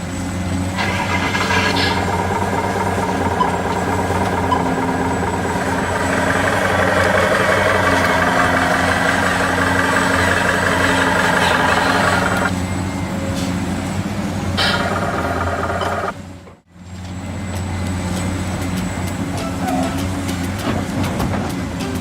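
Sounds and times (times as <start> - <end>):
heavy vehicle engine idling: 0.0 - 20.6.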